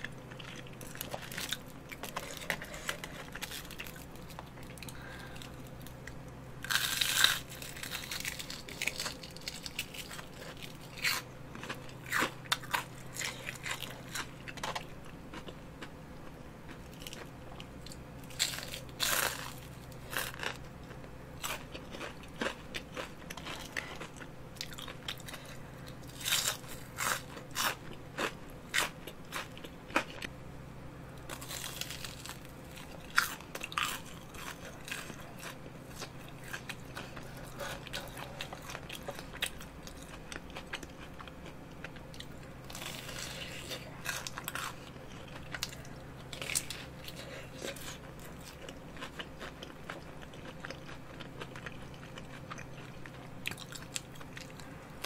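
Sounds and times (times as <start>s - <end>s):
crunchy chewing of fried food: 0.0s - 30.4s, 31.0s - 55.0s.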